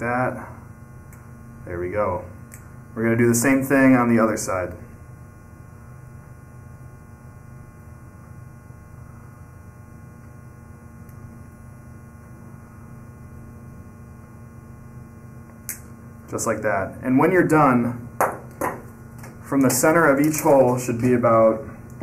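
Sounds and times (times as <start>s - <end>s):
low electrical mains hum: 0.0s - 22.0s.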